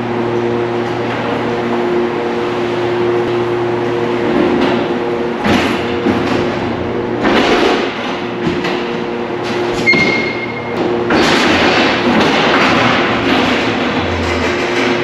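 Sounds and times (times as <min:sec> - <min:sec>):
pallet truck rumbling and clattering: 0:00.0 - 0:15.0
steady machine hum: 0:00.0 - 0:15.0.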